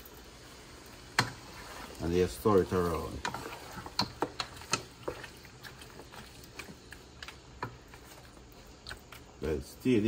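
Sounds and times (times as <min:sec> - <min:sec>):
spatula scraping a pan: 0:01.1 - 0:09.3.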